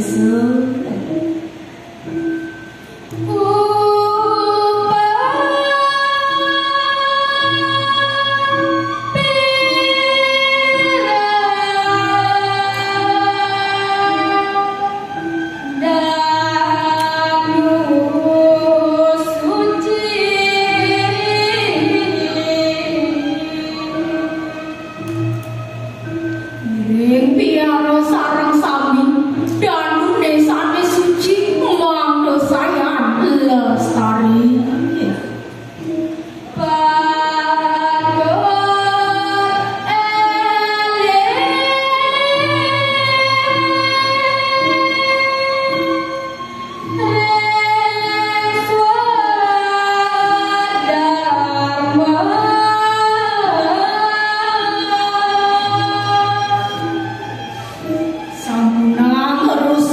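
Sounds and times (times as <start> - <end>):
woman singing long sliding notes: 0.0 - 59.9.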